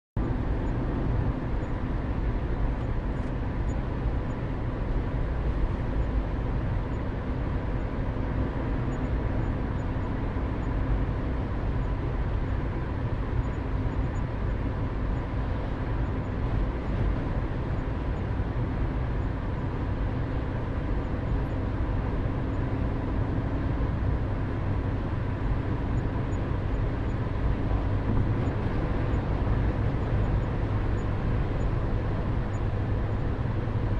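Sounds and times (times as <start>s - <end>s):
car interior road rumble: 0.2s - 33.9s.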